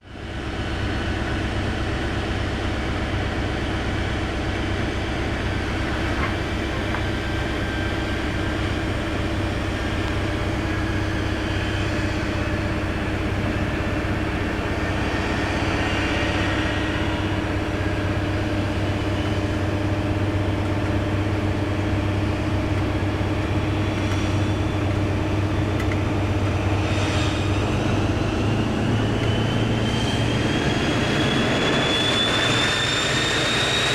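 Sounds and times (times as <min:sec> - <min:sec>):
diesel train engine pulling away: 0:00.1 - 0:33.9
rising engine whine: 0:00.2 - 0:33.9.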